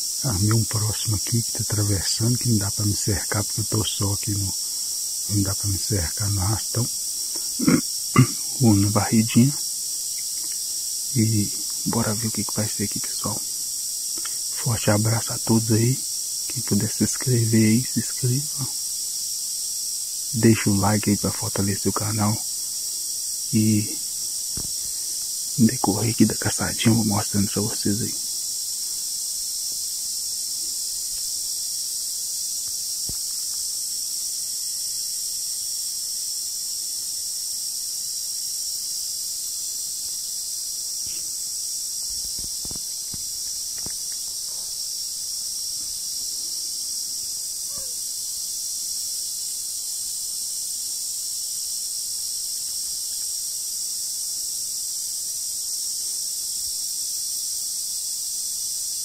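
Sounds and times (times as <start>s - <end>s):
insects chorus buzzing: 0.0s - 59.0s.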